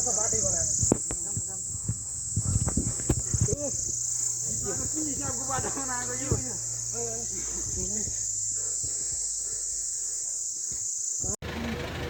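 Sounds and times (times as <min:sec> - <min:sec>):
high-pitched insect drone: 0:00.0 - 0:11.4.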